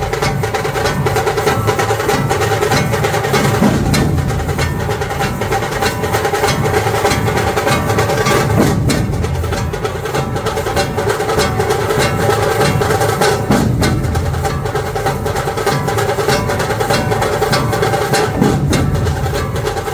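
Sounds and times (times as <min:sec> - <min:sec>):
drums playing fast rhythm: 0:00.0 - 0:19.9.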